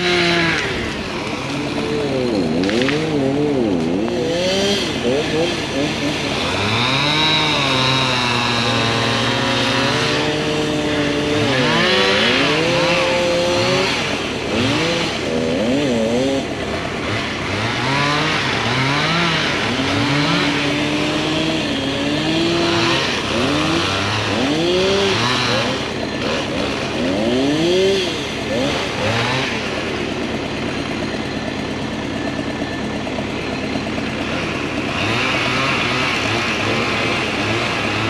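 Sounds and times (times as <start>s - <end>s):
engine revving up and down: 0.0s - 38.0s.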